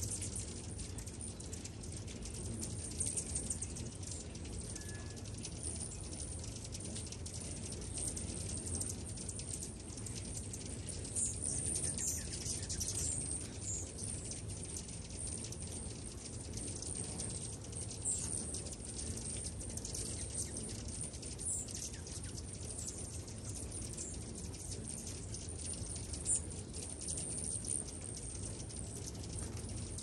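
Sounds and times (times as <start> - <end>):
hummingbirds chirping: 0.0 - 30.0
low background hum: 0.0 - 30.0.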